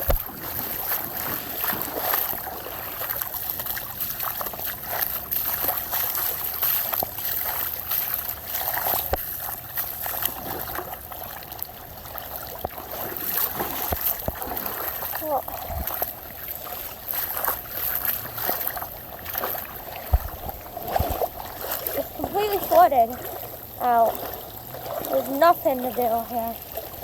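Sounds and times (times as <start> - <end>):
floodwater rushing down street: 0.0 - 27.0
small water splashes: 0.0 - 27.0.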